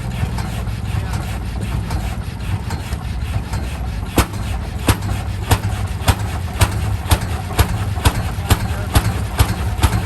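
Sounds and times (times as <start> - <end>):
tractor engine rumbling: 0.0 - 10.0.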